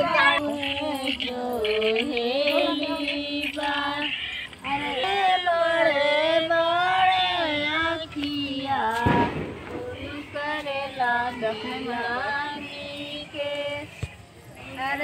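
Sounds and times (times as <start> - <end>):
woman singing devotional melody: 0.0 - 15.0.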